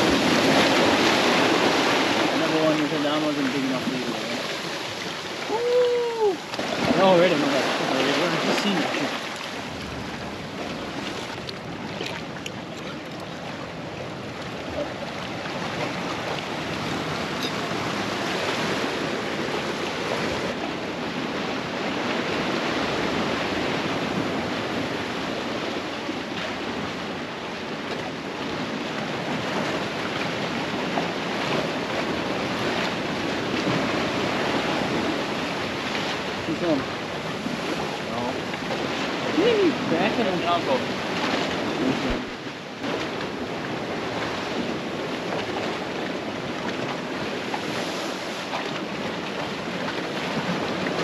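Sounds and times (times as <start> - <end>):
surf washing among rocks: 0.0 - 51.0.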